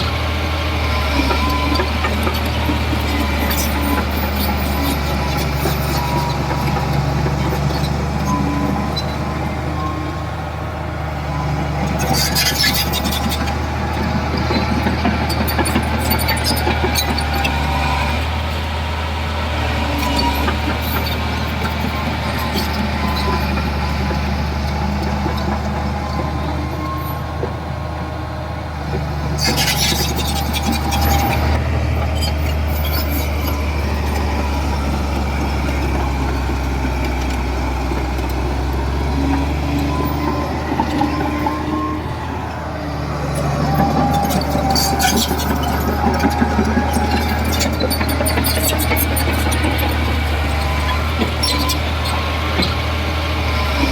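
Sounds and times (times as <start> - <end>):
diesel machinery engine drone: 0.0 - 53.9.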